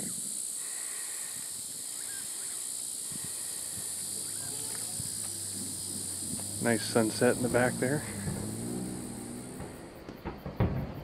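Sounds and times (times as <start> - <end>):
insect chirps: 0.0 - 11.0
insects buzzing: 0.0 - 11.0.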